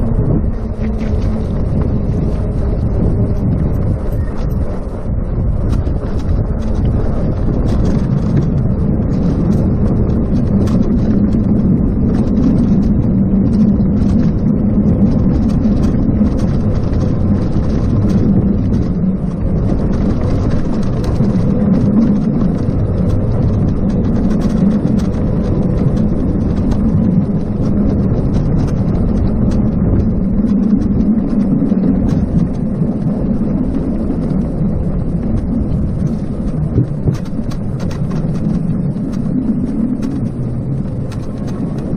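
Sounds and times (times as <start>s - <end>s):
faint steady hum: 0.0s - 41.9s
tyre and road noise: 0.0s - 41.9s
wind buffeting microphone: 0.0s - 41.9s.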